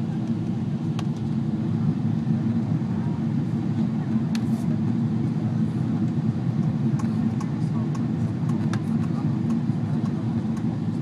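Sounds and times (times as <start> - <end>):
airliner engines and airflow rumble: 0.0 - 11.0.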